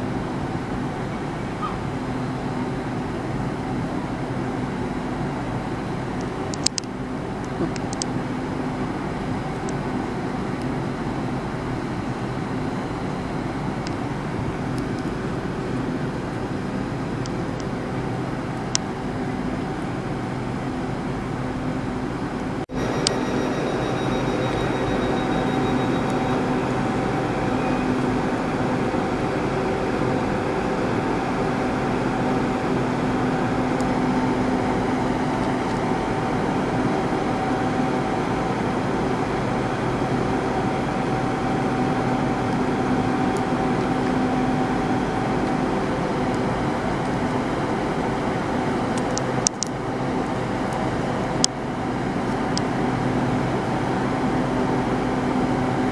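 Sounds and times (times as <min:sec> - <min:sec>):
diesel train engine idling: 0:00.0 - 0:55.9.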